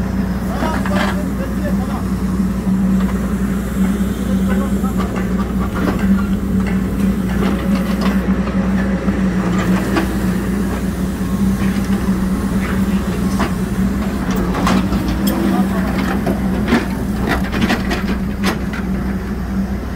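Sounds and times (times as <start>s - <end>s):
backhoe diesel engine humming: 0.0s - 19.9s.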